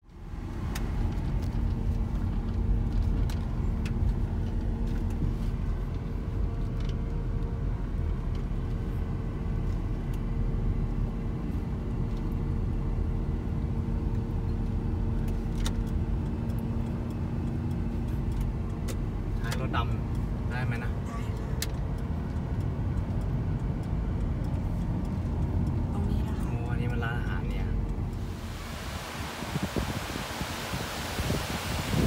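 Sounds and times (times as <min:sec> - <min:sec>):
van engine and road rumble: 0:00.0 - 0:32.0.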